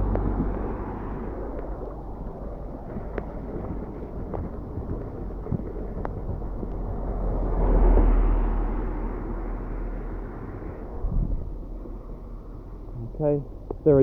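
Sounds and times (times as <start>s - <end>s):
rainwater running down street: 0.0s - 14.0s
vehicle tyres on wet road: 0.0s - 14.0s.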